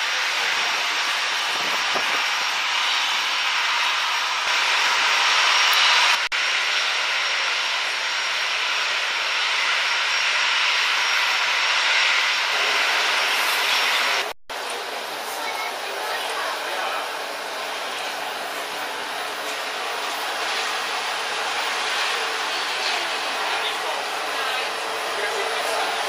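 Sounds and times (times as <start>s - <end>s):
jet engines taxiing: 0.0s - 26.0s.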